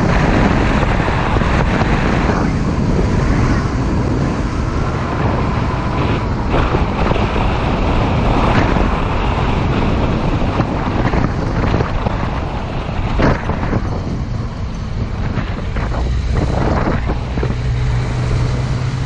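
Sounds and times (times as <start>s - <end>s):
motorcycle engine: 0.0s - 19.0s
road noise: 0.0s - 19.0s
wind rushing over microphone: 0.0s - 19.0s.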